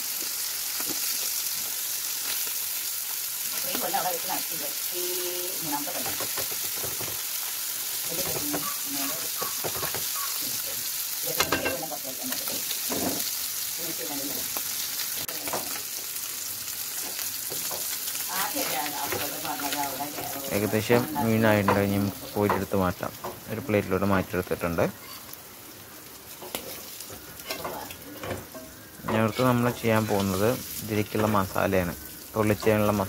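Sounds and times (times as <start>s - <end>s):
fish sizzling in oil: 0.0s - 33.0s.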